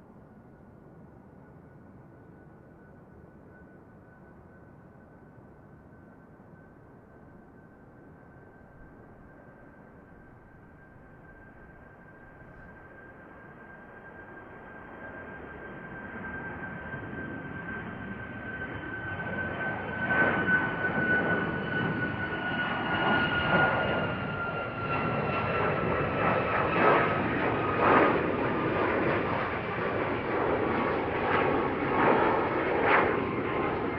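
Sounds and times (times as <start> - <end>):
jet engine whine: 0.0 - 33.9.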